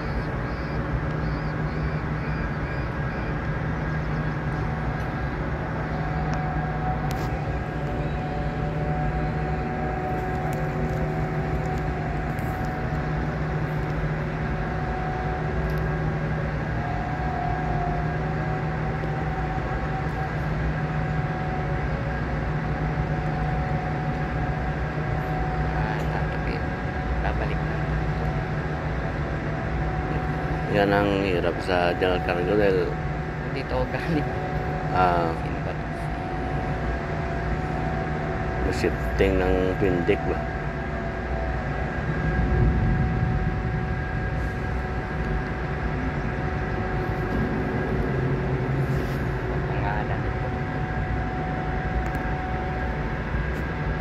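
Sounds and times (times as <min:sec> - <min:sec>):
faint steady whine: 0:00.0 - 0:54.0
ship machinery drone: 0:00.0 - 0:54.0.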